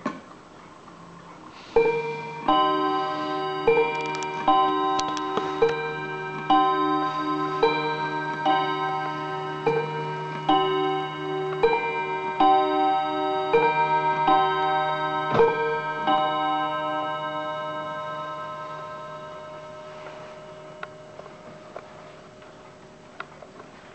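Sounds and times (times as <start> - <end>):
clock chiming: 1.8 - 23.5.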